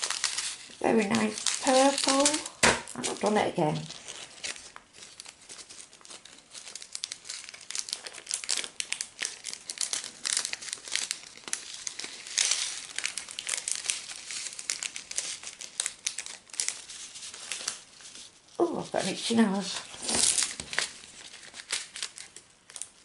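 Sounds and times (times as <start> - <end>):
foil packet crinkling: 0.0 - 23.0.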